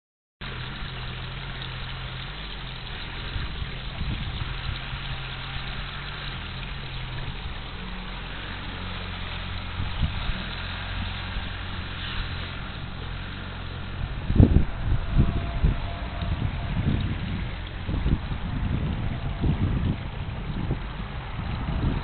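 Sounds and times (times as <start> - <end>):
excavator diesel engine running: 0.4 - 22.0.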